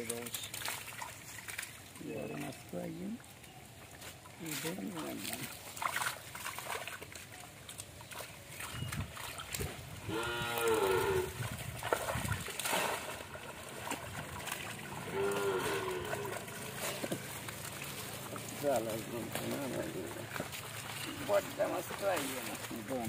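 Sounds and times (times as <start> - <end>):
water splashing and dripping: 0.0 - 23.0.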